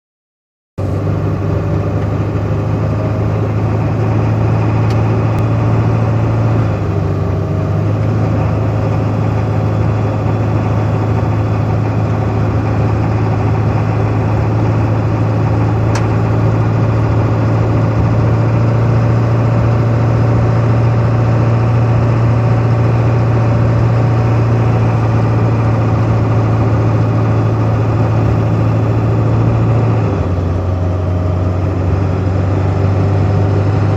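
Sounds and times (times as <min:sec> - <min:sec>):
diesel engine running: 0:00.8 - 0:33.9
engine knock and chatter: 0:00.8 - 0:33.9.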